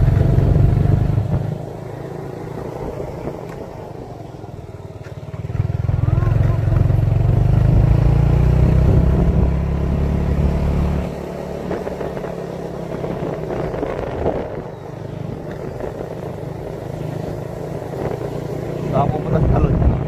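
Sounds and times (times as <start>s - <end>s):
small motorcycle running: 0.0s - 20.0s.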